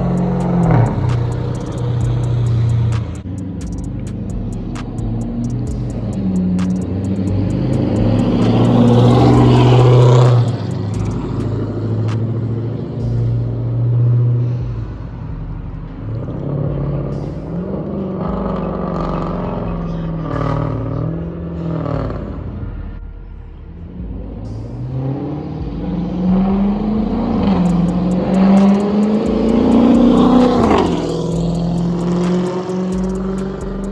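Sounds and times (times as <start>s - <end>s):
loud car exhaust revving: 0.0s - 33.9s.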